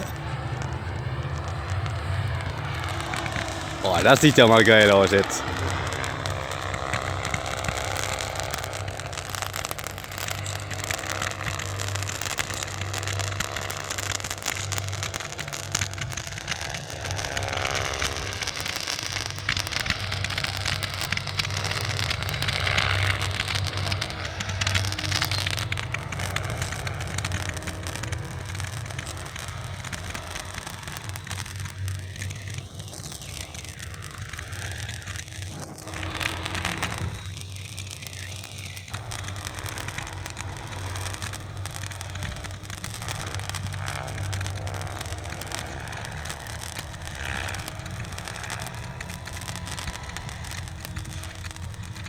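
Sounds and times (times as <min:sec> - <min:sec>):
fireworks crackling: 0:00.0 - 0:52.0
rc helicopter humming: 0:00.0 - 0:52.0.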